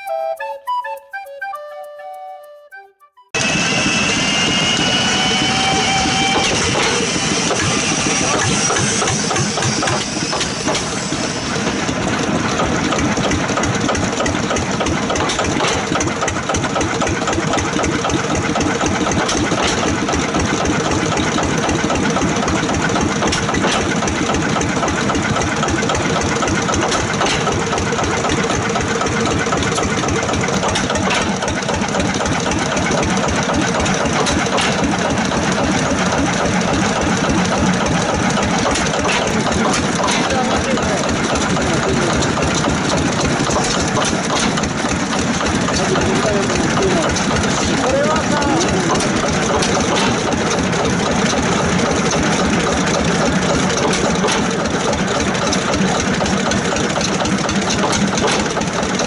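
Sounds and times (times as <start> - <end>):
diesel engine running: 3.4 - 59.0.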